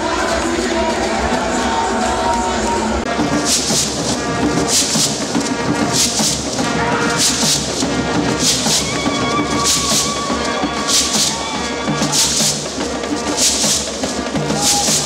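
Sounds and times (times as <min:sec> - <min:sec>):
lively music with percussion beat: 0:00.0 - 0:15.0.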